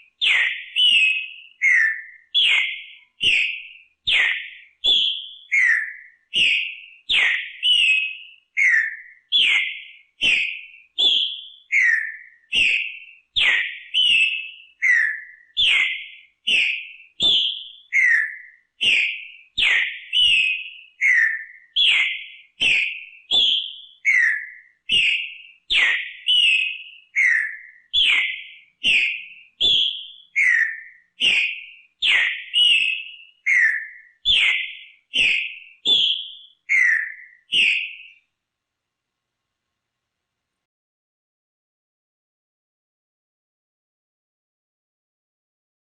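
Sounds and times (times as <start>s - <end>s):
bird singing whistled phrase: 0.0s - 38.2s.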